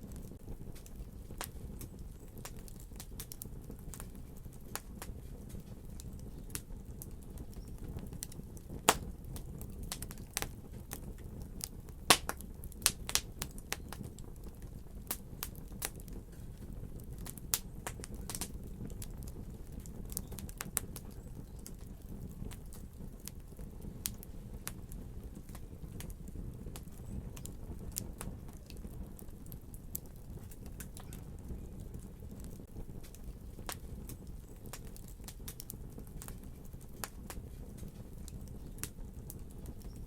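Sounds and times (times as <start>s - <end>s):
fire crackling and popping: 0.0s - 40.0s
low steady fire rumble: 0.0s - 40.0s.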